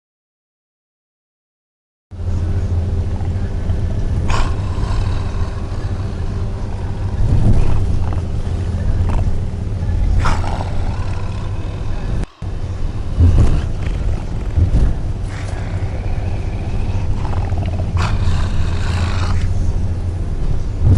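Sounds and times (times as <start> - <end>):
road noise: 2.1 - 20.9
van engine drone: 2.1 - 20.9
person snoring: 3.1 - 20.0.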